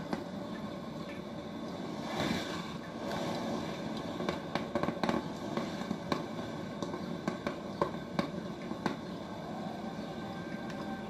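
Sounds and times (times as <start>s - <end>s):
coffee maker hissing: 0.0s - 11.0s.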